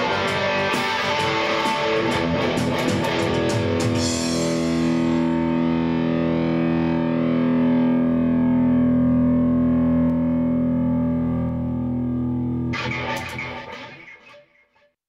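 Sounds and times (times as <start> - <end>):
distorted electric guitar chord ringing: 0.0 - 14.5.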